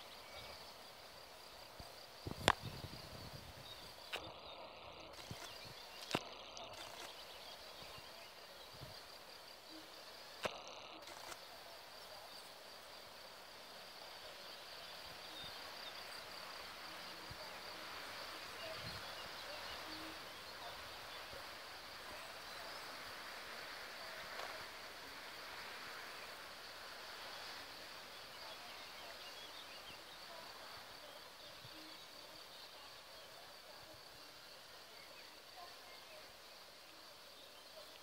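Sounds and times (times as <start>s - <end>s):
faint chirps: 0.0s - 38.0s
high-pitched insect hum: 0.0s - 38.0s
soft hiss: 0.0s - 38.0s.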